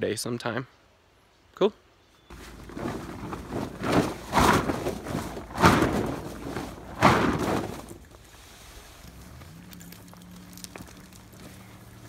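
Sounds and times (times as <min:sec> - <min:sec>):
tent fabric flapping: 0:02.3 - 0:12.0.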